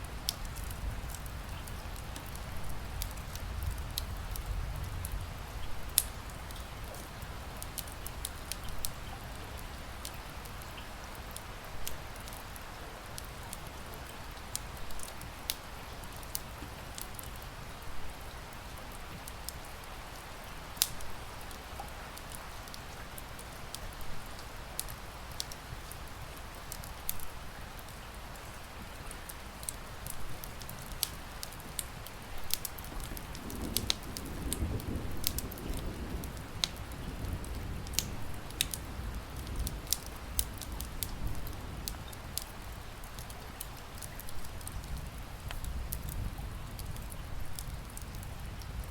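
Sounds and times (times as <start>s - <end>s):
rain hissing: 0.0s - 48.9s
wood fire crackling and popping: 0.0s - 48.9s.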